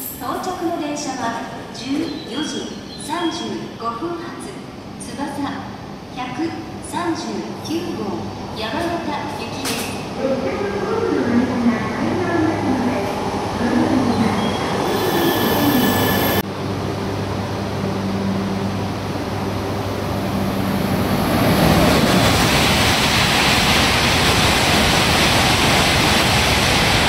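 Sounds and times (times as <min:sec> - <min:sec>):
high-speed train rushing past: 0:00.0 - 0:27.0.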